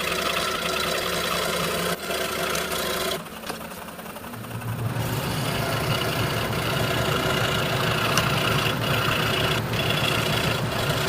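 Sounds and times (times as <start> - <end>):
scroll saw cutting wood: 0.0 - 11.0.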